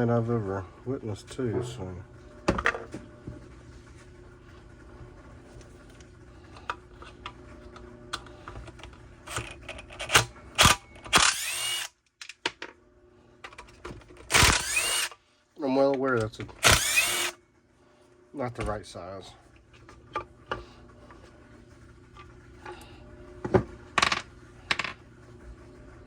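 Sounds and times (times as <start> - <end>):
steady low hum: 0.0 - 11.9, 12.8 - 26.0.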